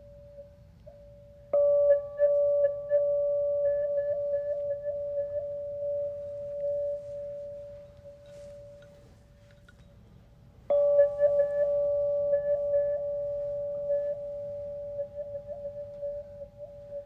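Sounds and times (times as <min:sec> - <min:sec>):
singing bowl ringing: 0:00.0 - 0:09.4, 0:10.7 - 0:17.0.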